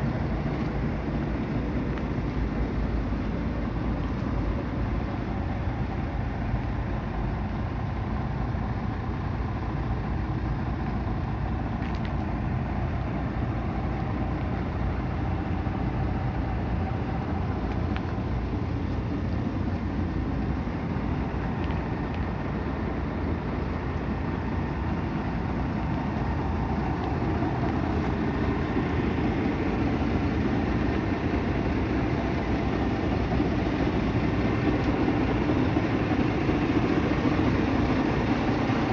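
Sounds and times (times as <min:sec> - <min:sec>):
truck diesel engine idling: 0:00.0 - 0:38.9.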